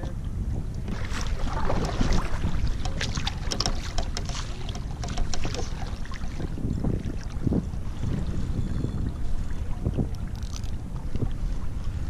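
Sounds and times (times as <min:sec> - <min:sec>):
wind rumble on microphone: 0:00.0 - 0:12.0
water splashing around kayak: 0:00.2 - 0:12.0.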